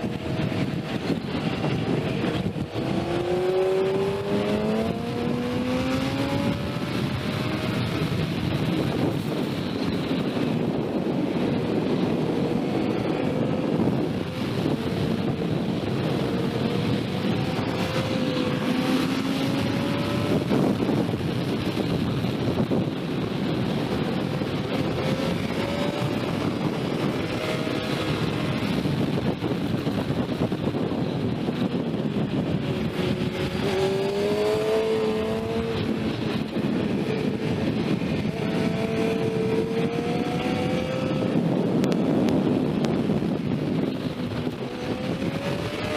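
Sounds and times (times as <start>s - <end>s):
motorcycle engine accelerating: 0.0s - 45.9s
wind rush on microphone: 0.0s - 45.9s.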